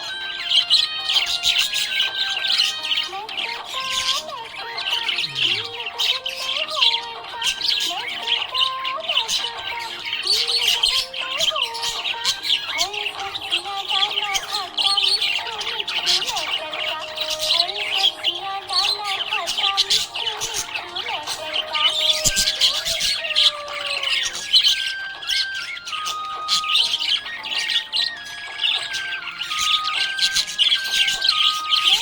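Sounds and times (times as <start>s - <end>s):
budgerigars chirping and chattering: 0.0s - 32.0s
melodic music: 0.0s - 32.0s.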